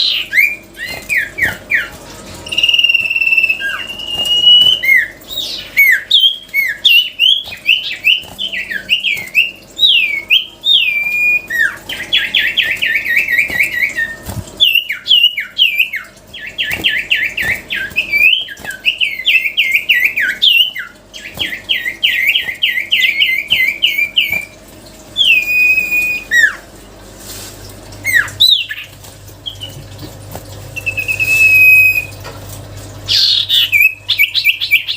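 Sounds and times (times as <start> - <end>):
bird whistling and trilling: 0.0 - 24.6, 25.2 - 26.6, 28.0 - 29.8, 30.7 - 32.2, 33.1 - 34.9.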